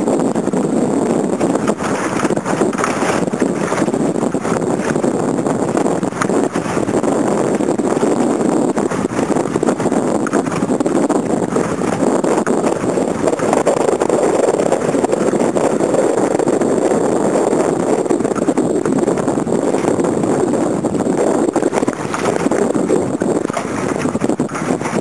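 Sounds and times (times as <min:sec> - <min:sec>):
choppy lake water: 0:00.0 - 0:25.0
wind buffeting microphone: 0:00.0 - 0:25.0.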